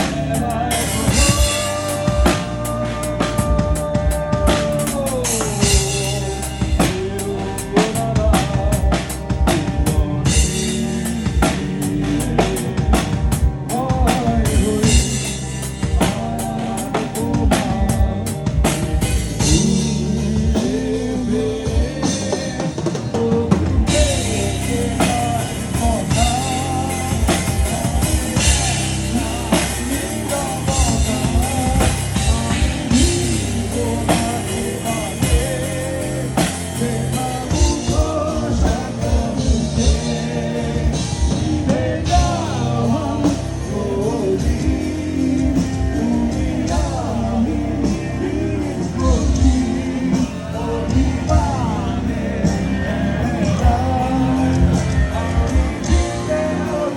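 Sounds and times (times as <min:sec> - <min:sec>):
melodic lead guitar line: 0:00.0 - 0:56.9
rock band playing live: 0:00.0 - 0:56.9.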